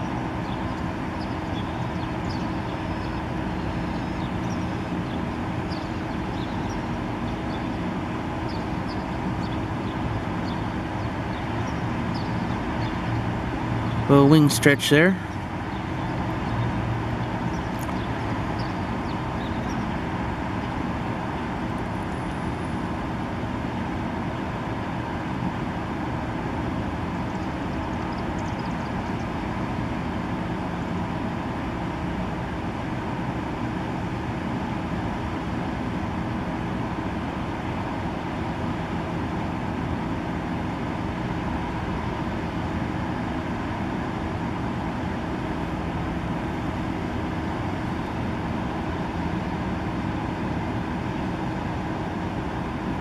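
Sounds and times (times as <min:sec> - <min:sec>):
traffic hum: 0:00.0 - 0:53.0.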